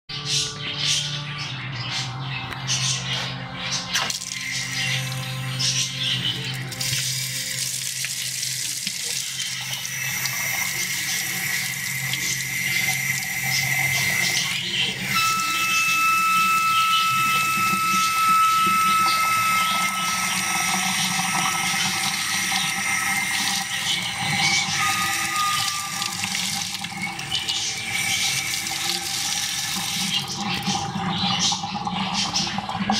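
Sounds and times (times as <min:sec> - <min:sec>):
faucet whistling: 0:04.0 - 0:32.8
water tap running: 0:04.0 - 0:32.9.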